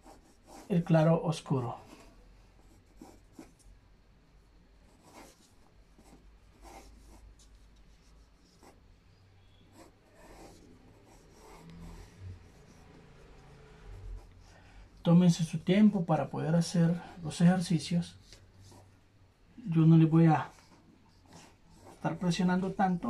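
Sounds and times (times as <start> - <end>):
pencil scratching on paper: 0.0 - 3.6, 4.9 - 8.8, 9.4 - 19.0, 19.8 - 23.0.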